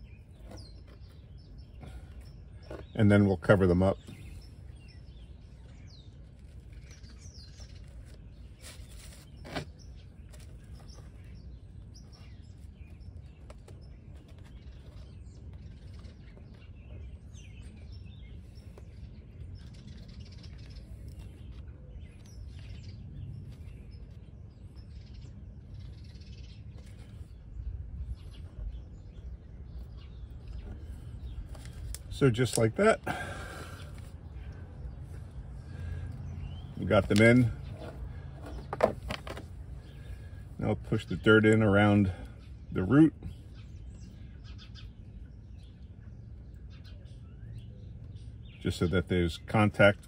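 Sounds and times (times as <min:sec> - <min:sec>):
faint birds chirping: 0:00.0 - 0:50.0.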